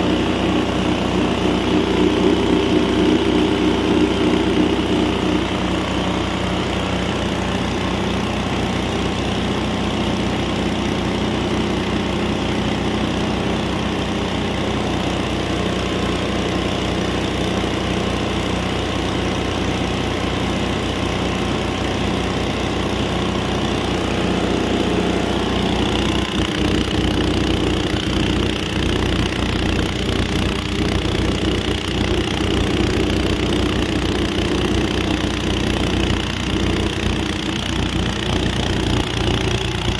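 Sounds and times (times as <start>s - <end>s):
grinding machine running: 0.0s - 39.9s.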